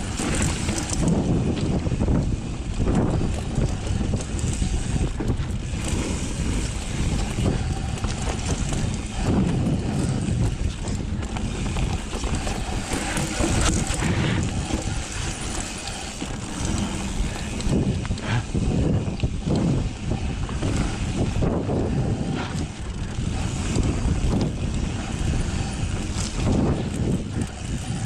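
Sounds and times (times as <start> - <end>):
bike rattling and knocking: 0.0 - 28.0
bike tyres rumbling on dirt: 0.0 - 28.0
wind on microphone: 0.0 - 28.0.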